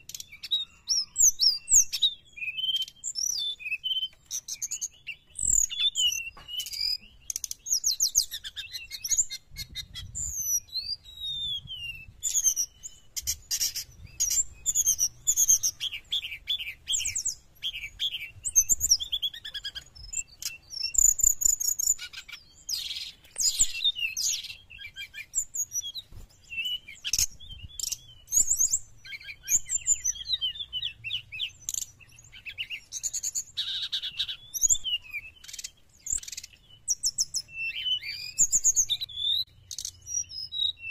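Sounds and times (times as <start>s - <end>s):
bird singing twitters and trills: 0.0s - 40.9s.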